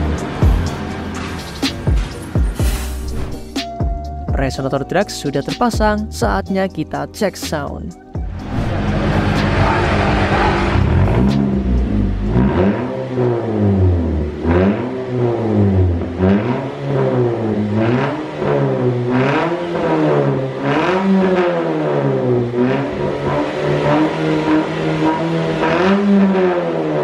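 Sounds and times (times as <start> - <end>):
car engine revving: 0.0 - 4.2, 8.0 - 27.0.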